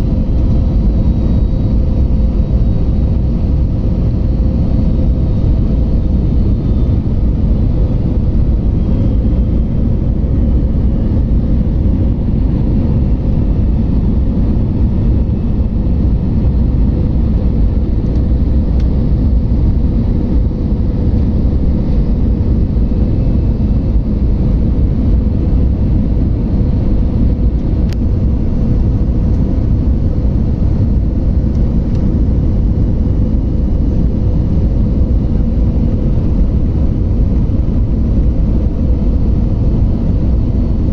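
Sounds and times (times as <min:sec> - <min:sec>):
faint constant hum: 0:00.0 - 0:40.9
jet engines rumbling: 0:00.0 - 0:40.9.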